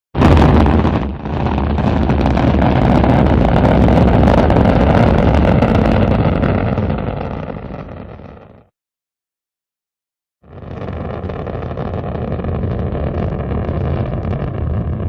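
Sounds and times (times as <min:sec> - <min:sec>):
rocket engine roar: 0:00.2 - 0:08.5, 0:10.5 - 0:15.0.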